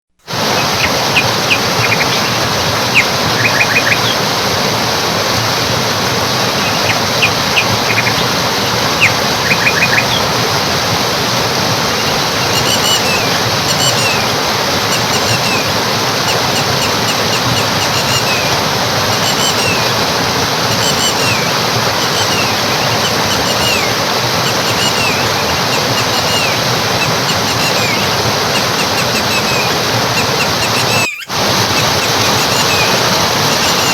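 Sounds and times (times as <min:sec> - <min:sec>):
stream water rushing: 0:00.2 - 0:33.9
birds chirping: 0:00.3 - 0:04.5, 0:06.3 - 0:33.9
short falling bird calls: 0:00.4 - 0:04.2, 0:06.5 - 0:10.4, 0:11.9 - 0:14.3, 0:14.9 - 0:20.0, 0:20.6 - 0:33.9.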